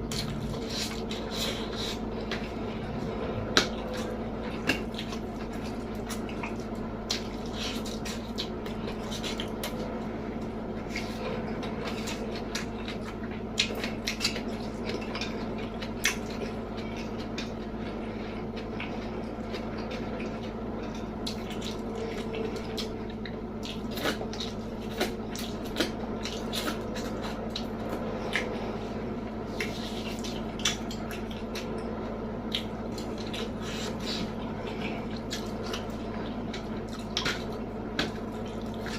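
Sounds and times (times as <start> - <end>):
steady low hum: 0.0 - 38.9
wet chewing and mouth smacks: 3.6 - 9.9, 10.8 - 17.9, 18.6 - 28.6, 29.5 - 31.9, 32.5 - 38.9.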